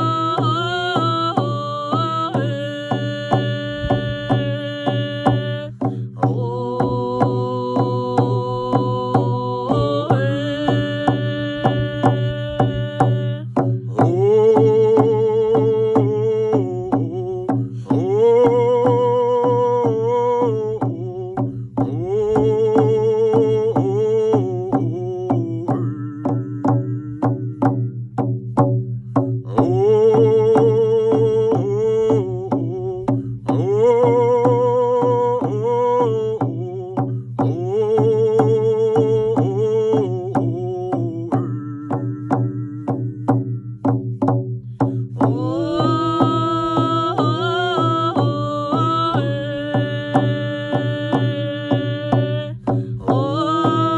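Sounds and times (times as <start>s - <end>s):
man singing: 0.0s - 27.9s, 29.5s - 43.6s, 45.1s - 53.9s
frame drums beating: 0.0s - 53.9s.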